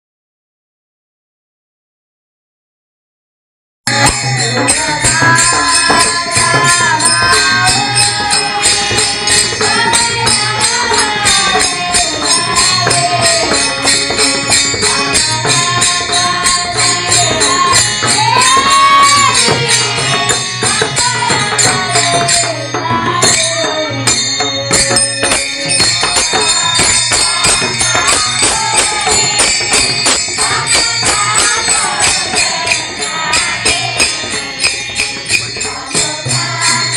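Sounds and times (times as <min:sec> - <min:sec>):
jingling percussion: 0:03.9 - 0:36.9.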